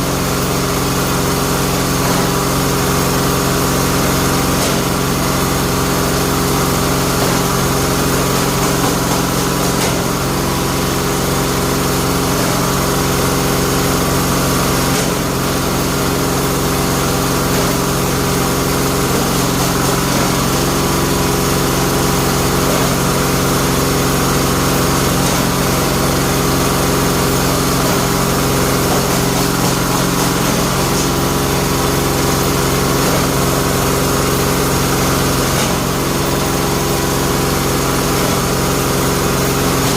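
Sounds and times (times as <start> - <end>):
machine droning: 0.0 - 39.9.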